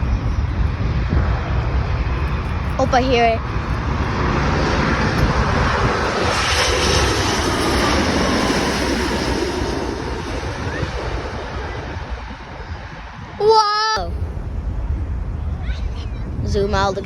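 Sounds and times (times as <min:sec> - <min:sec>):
jet engines roaring overhead: 0:00.0 - 0:17.0.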